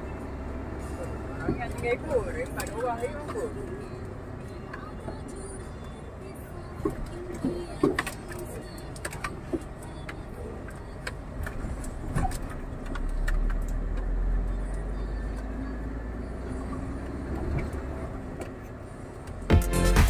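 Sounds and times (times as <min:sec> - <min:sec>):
diesel truck engine rumble: 0:00.0 - 0:20.0.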